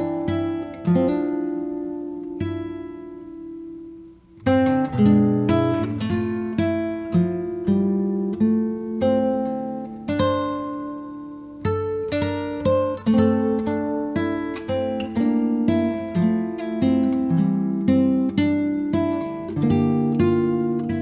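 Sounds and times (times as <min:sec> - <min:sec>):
acoustic guitar plucked melody: 0:00.0 - 0:21.0.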